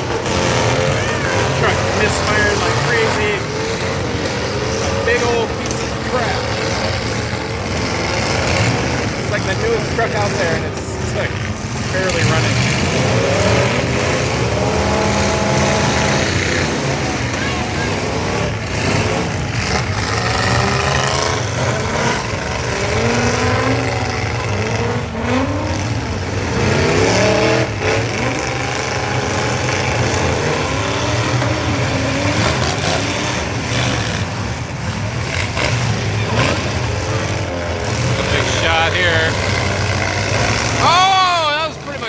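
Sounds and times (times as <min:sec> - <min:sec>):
truck engines revving: 0:00.0 - 0:42.0.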